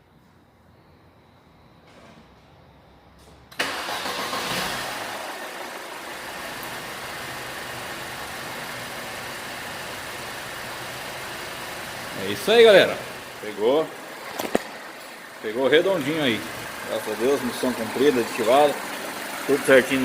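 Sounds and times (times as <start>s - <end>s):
car engine starting and idling: 3.2s - 20.0s.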